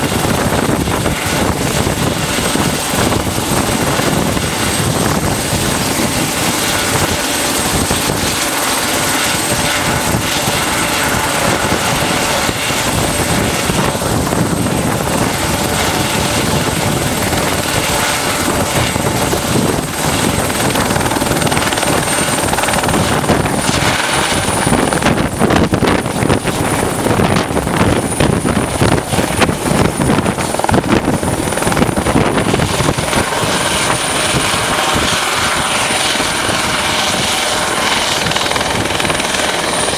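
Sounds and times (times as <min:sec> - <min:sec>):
helicopter engine whine: 0:00.0 - 0:39.9
helicopter rotors turning: 0:00.0 - 0:39.9.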